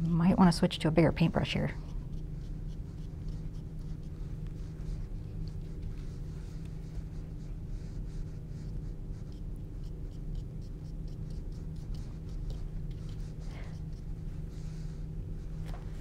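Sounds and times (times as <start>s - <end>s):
steady low hum: 0.0s - 16.0s
paintbrush strokes on canvas: 1.3s - 16.0s.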